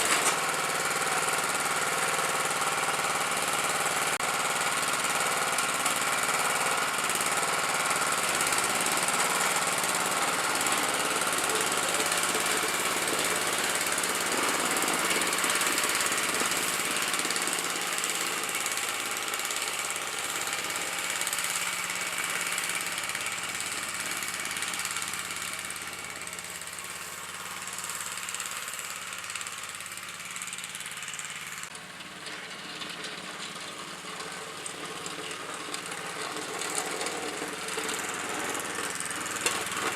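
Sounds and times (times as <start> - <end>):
riding lawnmower engine running: 0.0 - 39.9.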